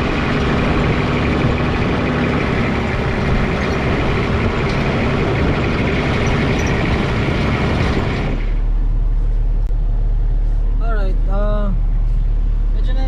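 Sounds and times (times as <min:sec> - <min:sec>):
dull low hum: 0:00.0 - 0:13.0
off-road vehicle engine running: 0:00.0 - 0:13.0
road and rattle noise: 0:00.0 - 0:13.0.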